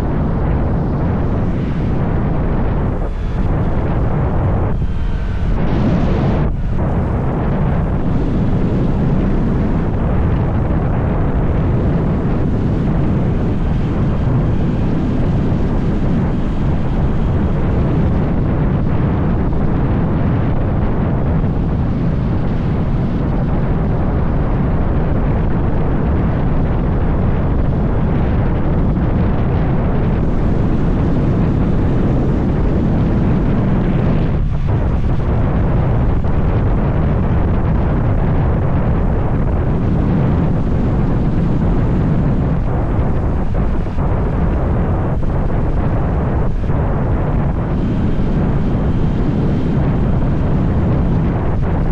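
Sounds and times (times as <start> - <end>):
vehicle noise: 0.0 - 51.9
wind buffeting microphone: 0.0 - 51.9.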